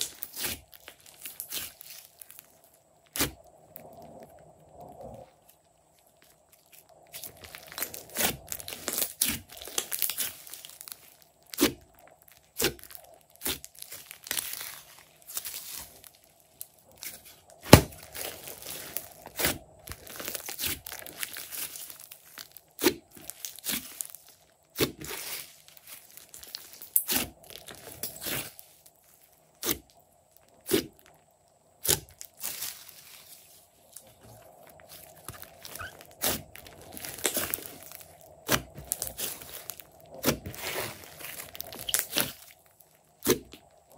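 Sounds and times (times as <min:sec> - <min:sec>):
slime crackling and popping: 0:00.0 - 0:33.3, 0:33.9 - 0:43.9.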